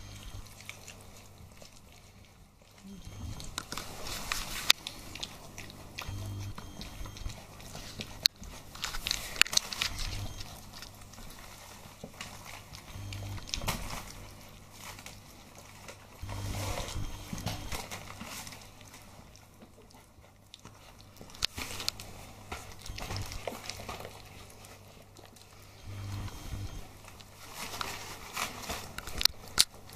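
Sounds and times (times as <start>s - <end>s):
puppies lapping and chewing food: 0.0s - 29.9s.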